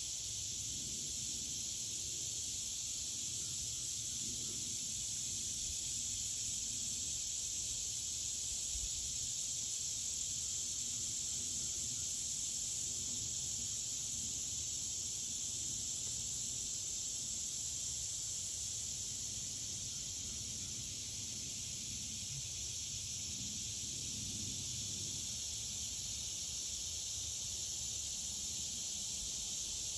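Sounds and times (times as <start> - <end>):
breeze in the trees: 0.0 - 29.9.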